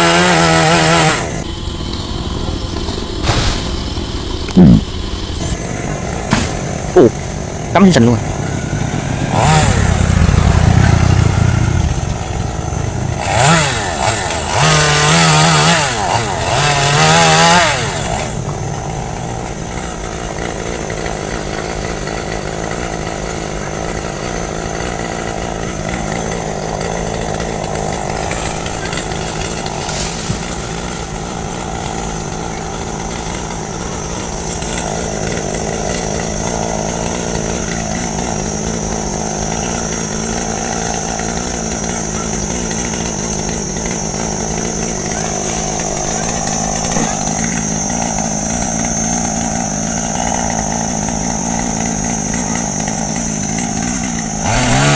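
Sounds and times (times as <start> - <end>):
chainsaw engine revving: 0.0 - 1.5, 3.9 - 54.9.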